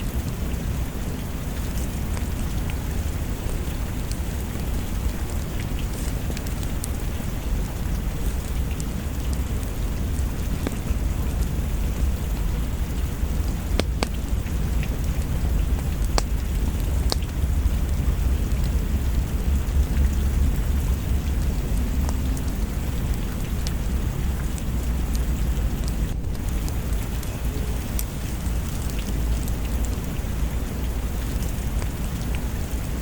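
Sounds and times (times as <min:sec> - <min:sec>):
deep low rumble: 0:00.0 - 0:30.4
rain falling: 0:00.0 - 0:33.0.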